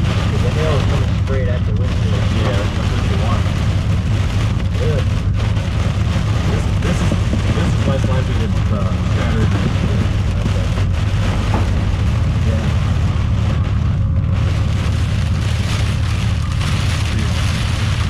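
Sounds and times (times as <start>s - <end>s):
heavy rain on a truck: 0.0s - 18.0s
low rumble: 0.0s - 18.0s.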